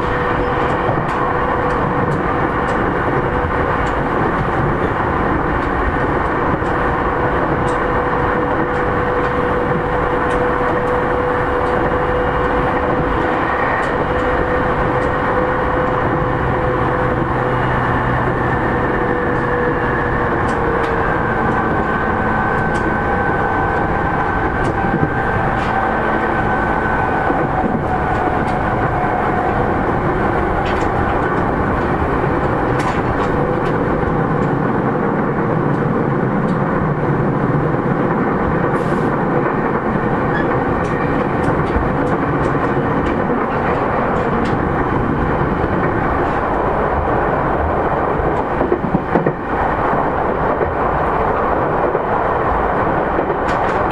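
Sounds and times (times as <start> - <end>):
train wheel clicks: 0.0 - 53.9
train wheels rumbling on rail: 0.0 - 53.9.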